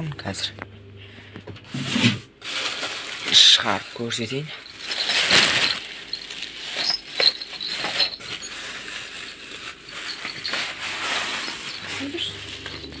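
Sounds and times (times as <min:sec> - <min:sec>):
plastic packaging rustling: 0:01.8 - 0:13.0.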